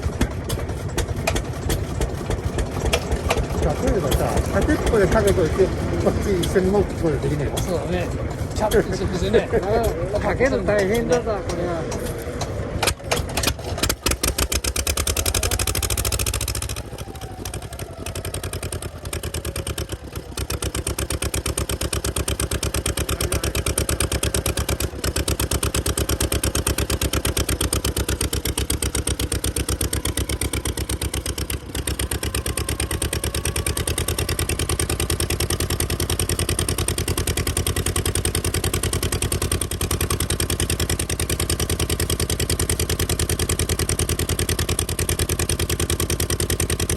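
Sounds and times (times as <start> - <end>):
kerosene engine running: 0.0 - 46.9.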